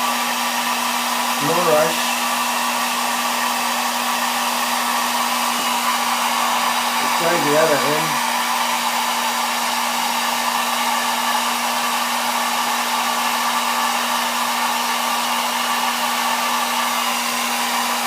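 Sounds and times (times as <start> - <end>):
hot-air blower whirring: 0.0 - 18.0.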